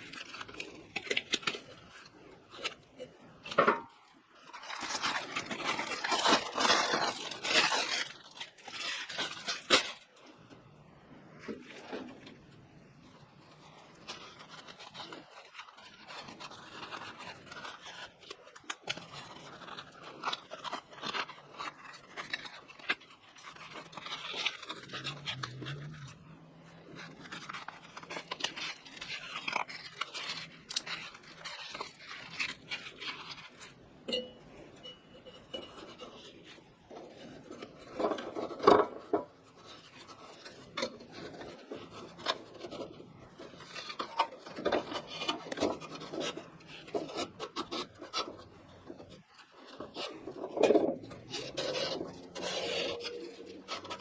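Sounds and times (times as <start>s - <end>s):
scraping and rustling: 0.0s - 54.0s.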